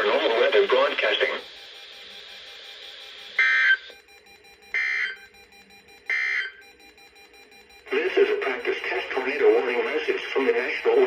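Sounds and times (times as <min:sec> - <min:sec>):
digital data tone bursts: 0:00.0 - 0:11.0.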